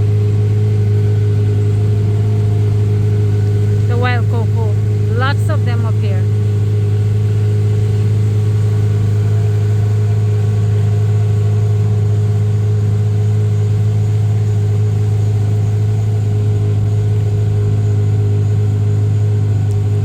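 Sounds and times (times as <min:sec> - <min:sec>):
motor engine droning: 0:00.0 - 0:20.0.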